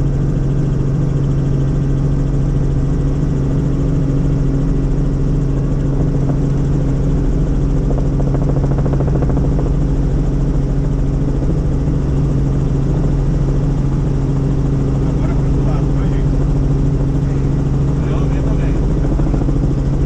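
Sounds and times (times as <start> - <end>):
helicopter rotor and engine drone: 0.0 - 20.0.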